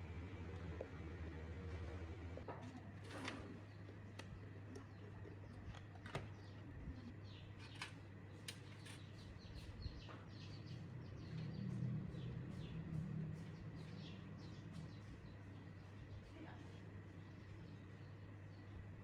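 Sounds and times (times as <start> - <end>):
low steady hum: 0.0 - 19.0
small birds chirping: 3.5 - 19.0.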